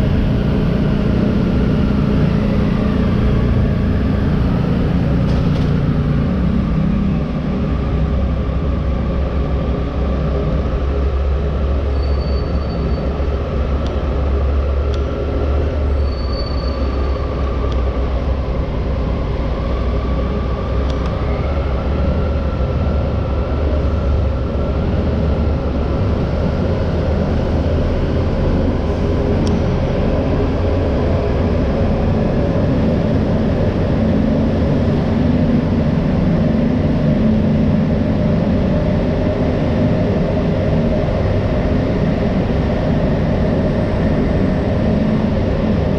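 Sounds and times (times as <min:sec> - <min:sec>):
vehicle rumble with faint whine: 0:00.0 - 0:45.9.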